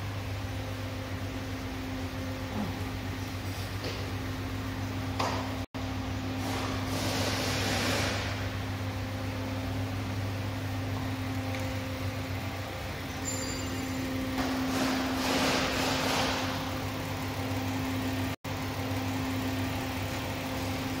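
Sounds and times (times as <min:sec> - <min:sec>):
shop machinery humming: 0:00.0 - 0:21.0.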